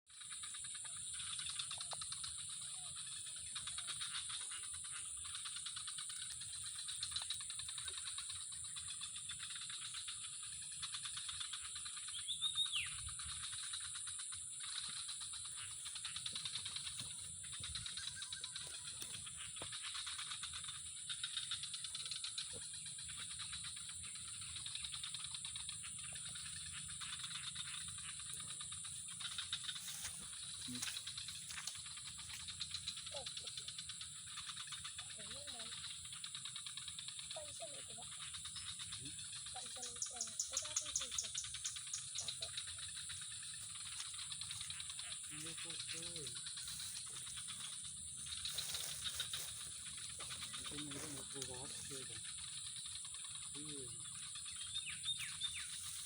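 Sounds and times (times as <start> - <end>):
trilling insects: 0.1 - 56.0.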